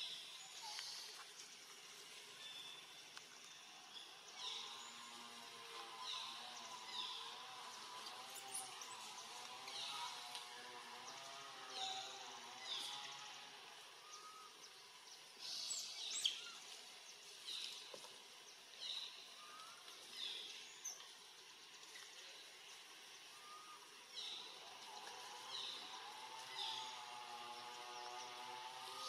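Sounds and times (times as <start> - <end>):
low outdoor hiss: 0.0 - 29.0.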